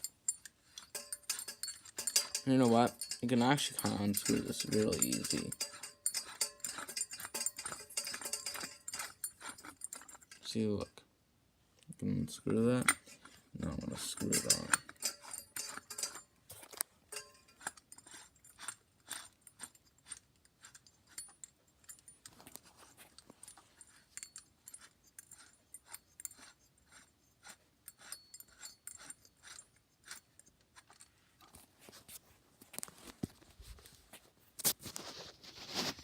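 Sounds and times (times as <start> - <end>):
small metal clicks and scrapes: 0.0 - 11.0, 11.9 - 34.0.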